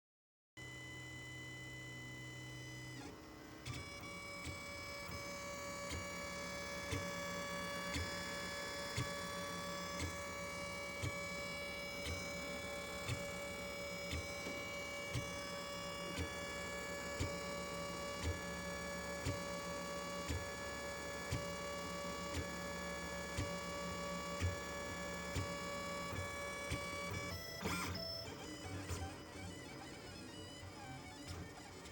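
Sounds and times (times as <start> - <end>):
printer stepper motors whining: 0.6 - 31.9.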